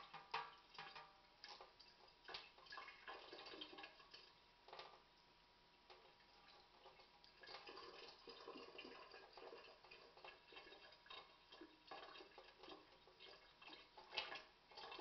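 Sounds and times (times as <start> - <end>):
tap water splashing in sink: 0.0 - 5.0, 5.9 - 15.0.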